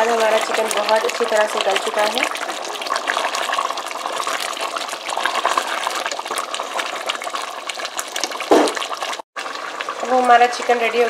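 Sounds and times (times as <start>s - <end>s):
gravy bubbling and sizzling in pot: 0.0s - 11.0s.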